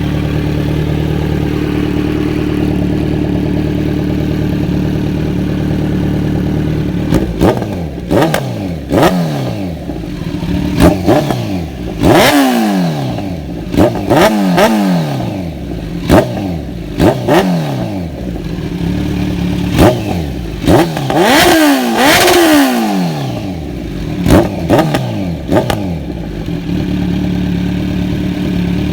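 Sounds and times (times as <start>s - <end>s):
motorcycle engine idling: 0.0s - 28.9s
motorcycle engine revving: 0.0s - 28.9s.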